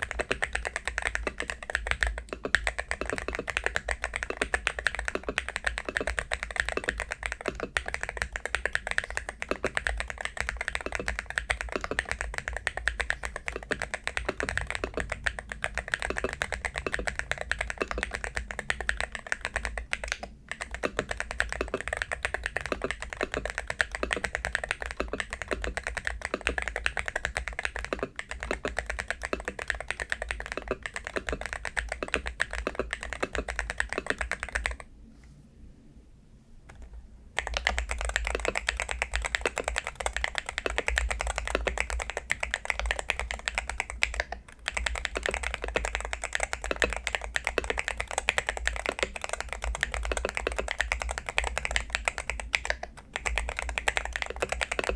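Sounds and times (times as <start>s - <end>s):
fast keyboard typing: 0.0s - 34.9s, 36.7s - 54.9s.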